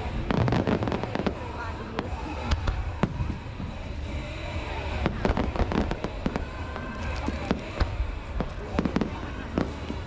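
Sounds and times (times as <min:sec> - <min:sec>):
fireworks bangs and pops: 0:00.0 - 0:10.0
low rumble of fireworks: 0:00.0 - 0:10.0.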